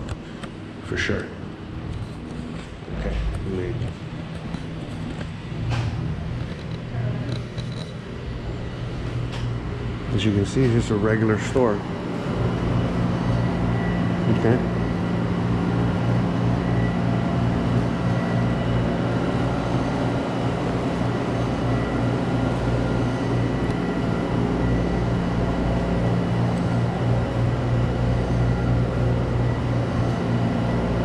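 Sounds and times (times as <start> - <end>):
electrical hum of refrigeration: 0.0 - 31.0.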